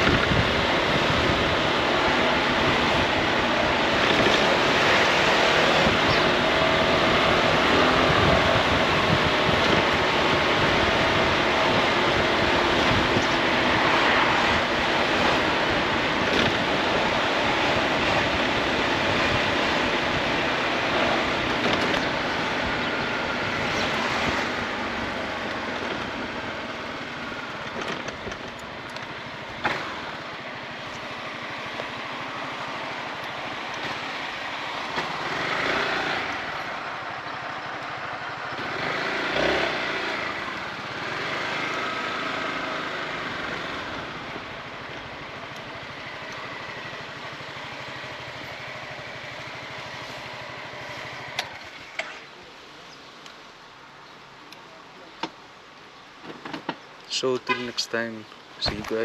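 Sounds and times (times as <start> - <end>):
scooter engine running: 0.0 - 52.3
wind and road noise: 0.0 - 59.0.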